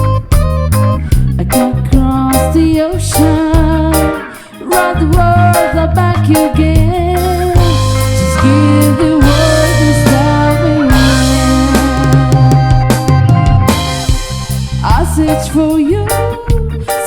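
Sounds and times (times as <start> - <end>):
reggae band playing: 0.0 - 17.0
person singing: 1.4 - 17.0.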